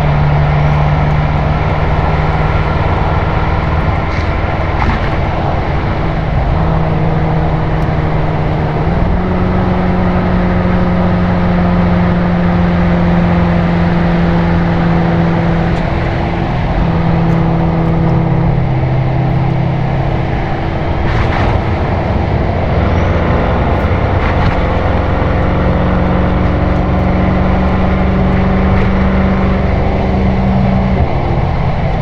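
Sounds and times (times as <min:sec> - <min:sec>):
car exhaust droning: 0:00.0 - 0:32.0
tyre noise: 0:00.0 - 0:32.0
wind noise: 0:00.0 - 0:32.0.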